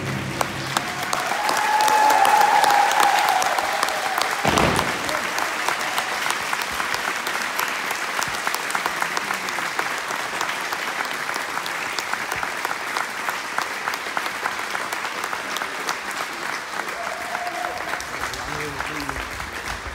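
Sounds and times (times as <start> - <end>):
audience applause: 0.0 - 19.9.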